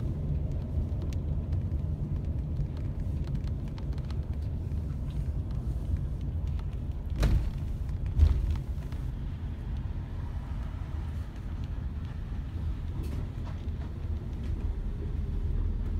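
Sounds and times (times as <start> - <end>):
vehicle engine and road rumble: 0.0 - 15.9.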